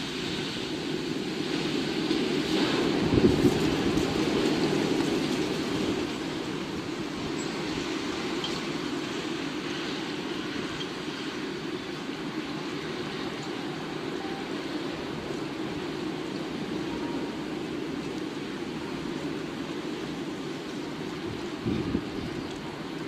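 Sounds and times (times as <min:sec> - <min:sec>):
storm wind rushing: 0:00.0 - 0:23.0.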